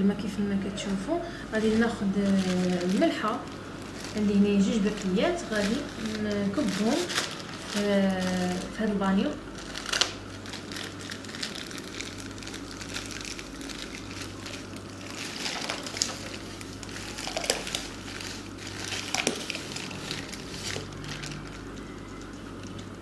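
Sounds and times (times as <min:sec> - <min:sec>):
plastic bag crinkling: 0:01.6 - 0:23.0.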